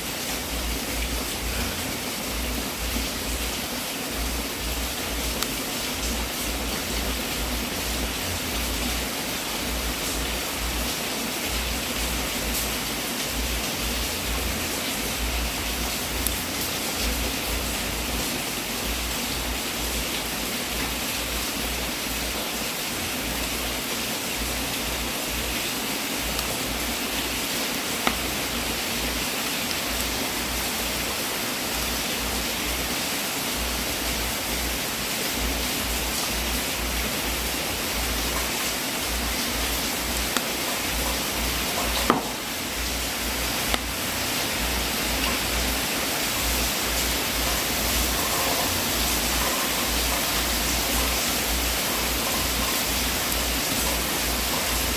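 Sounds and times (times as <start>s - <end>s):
wood fire crackling: 0.1s - 22.4s, 23.0s - 32.9s, 33.5s - 54.9s.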